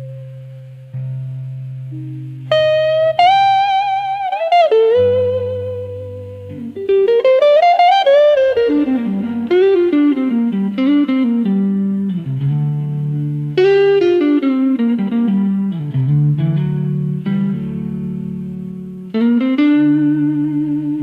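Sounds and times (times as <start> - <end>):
slow blues electric guitar lead: 0.0 - 21.0.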